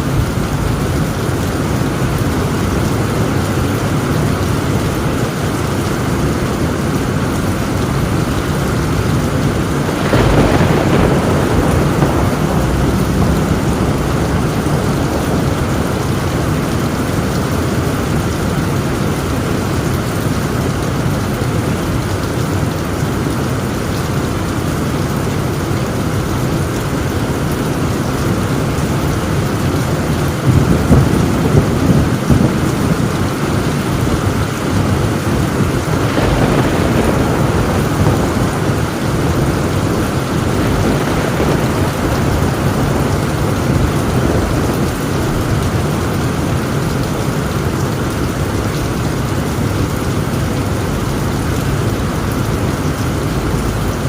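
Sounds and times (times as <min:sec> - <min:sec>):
heavy rain on a tin roof: 0:00.0 - 0:54.0
thunder rumbling: 0:00.0 - 0:54.0.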